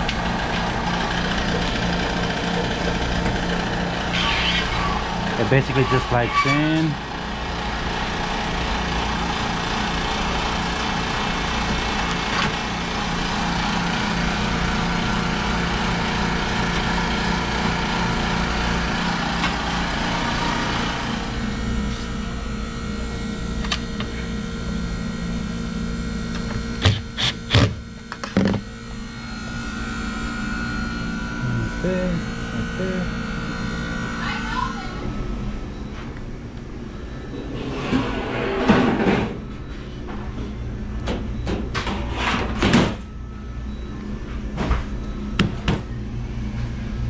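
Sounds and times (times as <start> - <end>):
machine hum: 0.0 - 47.0.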